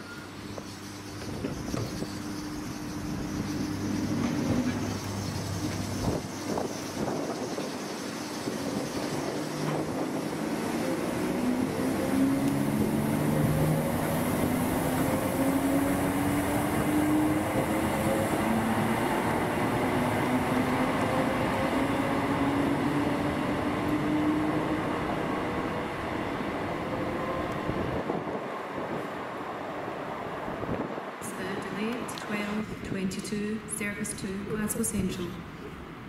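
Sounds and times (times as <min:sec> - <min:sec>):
train rolling noise: 0:00.0 - 0:36.0.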